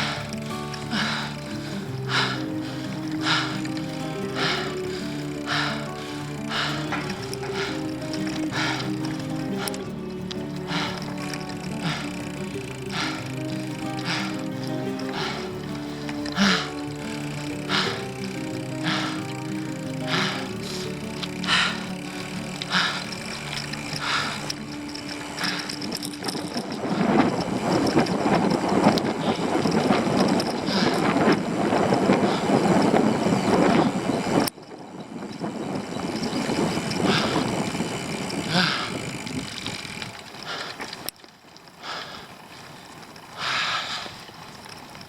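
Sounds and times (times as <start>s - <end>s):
bicycle road noise: 0.0s - 45.0s
rushing wind: 0.0s - 45.0s.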